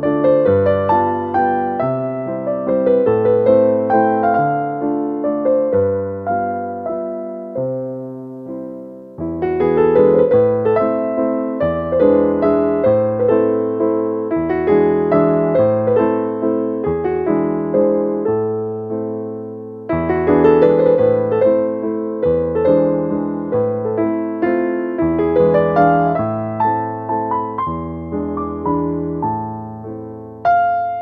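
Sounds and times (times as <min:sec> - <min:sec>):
gentle piano melody: 0:00.0 - 0:31.0.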